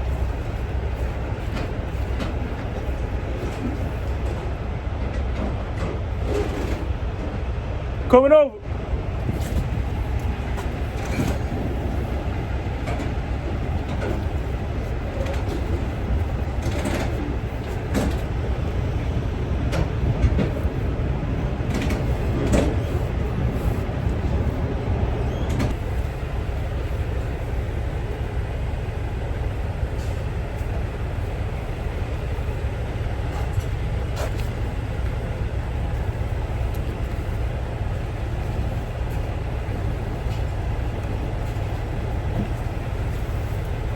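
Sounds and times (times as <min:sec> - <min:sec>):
truck diesel engine running: 0:00.0 - 0:43.9.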